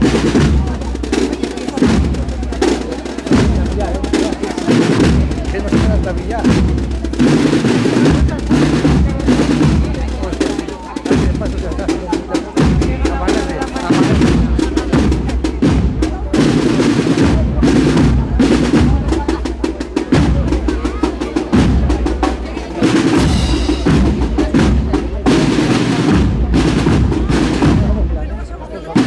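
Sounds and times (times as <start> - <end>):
bass drum beats: 0.0 - 29.0
marching band playing: 0.0 - 29.0
rapid snare drum strokes: 0.0 - 29.0.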